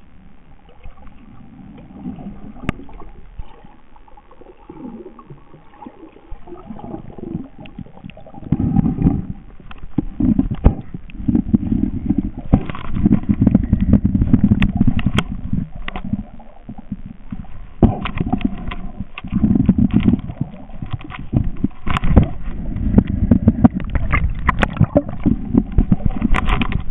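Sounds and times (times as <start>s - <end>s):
muffled underwater rumbling: 0.0s - 26.9s.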